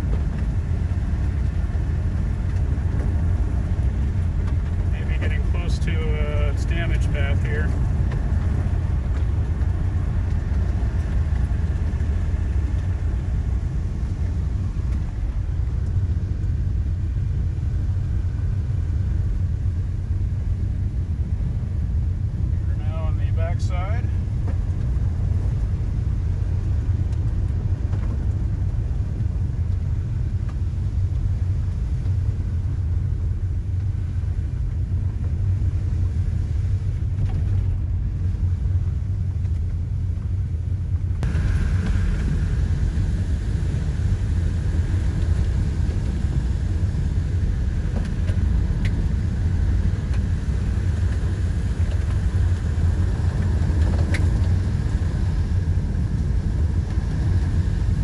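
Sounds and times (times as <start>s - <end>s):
car interior driving rumble: 0.0s - 58.0s.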